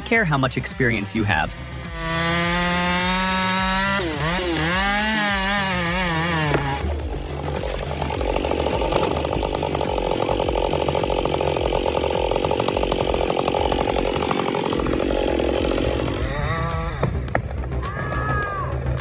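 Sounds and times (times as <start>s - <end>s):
chainsaw cutting log: 0.0s - 17.6s.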